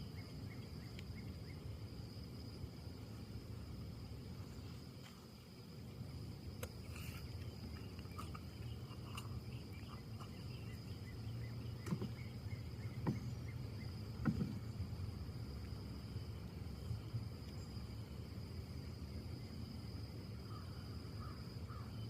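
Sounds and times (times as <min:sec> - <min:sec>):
insect trill: 0:00.0 - 0:22.0
wind in trees: 0:00.0 - 0:22.0.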